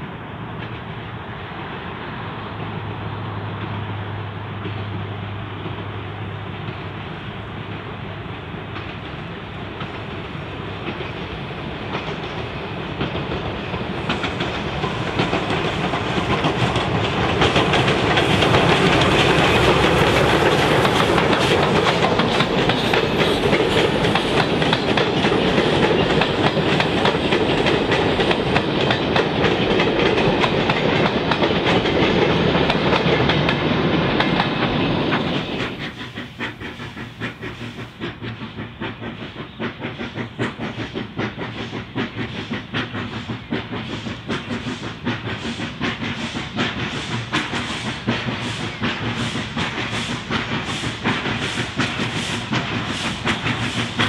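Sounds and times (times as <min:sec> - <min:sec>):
steam locomotive passing: 0:00.0 - 0:54.0
train wheels clacking over rail joints: 0:02.5 - 0:54.0.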